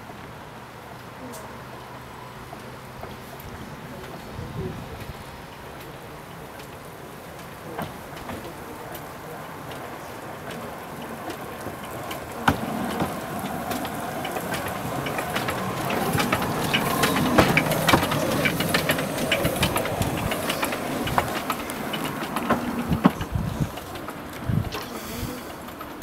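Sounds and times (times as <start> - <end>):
clanks and wheel clicks: 0.0 - 26.0
steam locomotive passing: 0.0 - 26.0.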